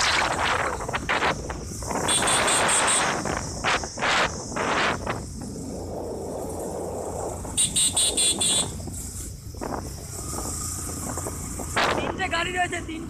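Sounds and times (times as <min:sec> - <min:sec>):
motorcycle riding: 0:00.0 - 0:13.0
wind buffeting microphone: 0:00.0 - 0:13.0.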